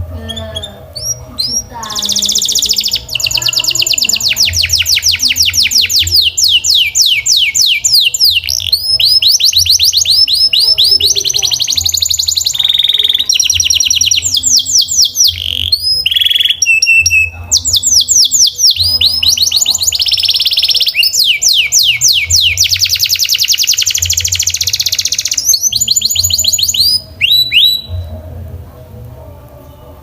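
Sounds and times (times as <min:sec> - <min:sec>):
canary singing trills: 0:00.0 - 0:28.4.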